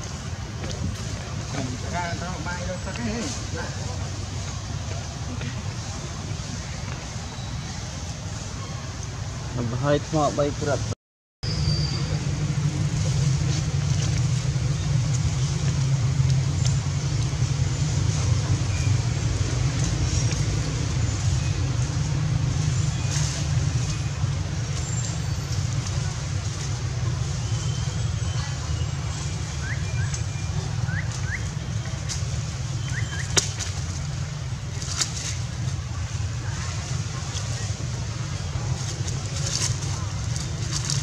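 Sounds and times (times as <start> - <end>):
low outdoor rumble: 0.0 - 41.0.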